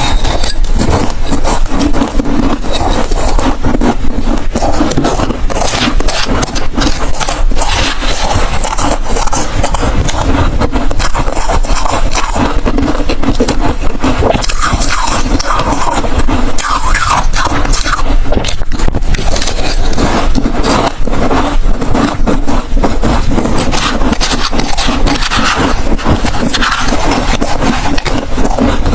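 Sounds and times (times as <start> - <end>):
crunching and chewing ice: 0.0 - 28.9.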